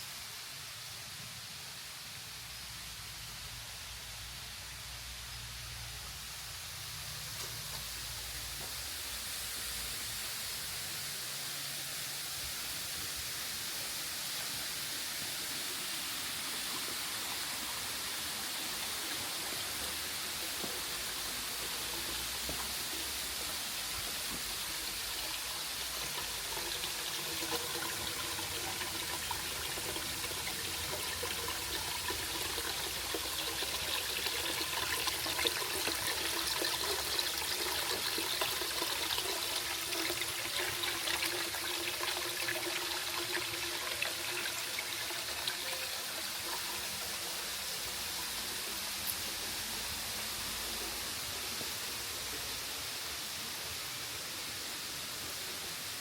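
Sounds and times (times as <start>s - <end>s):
waterfall splashing and trickling: 0.0s - 56.0s.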